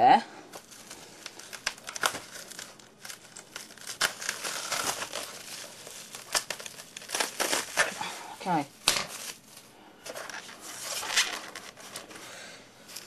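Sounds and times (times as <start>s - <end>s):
scraping foam and plastic packaging: 0.5s - 13.0s.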